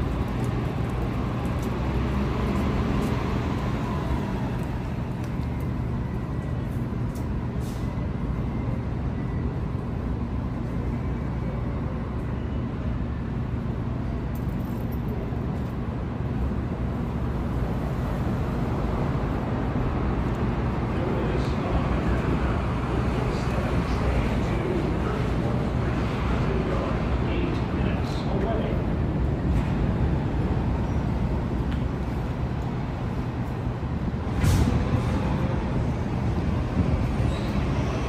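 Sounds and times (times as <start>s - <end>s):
low rumble of city traffic: 0.0s - 38.0s.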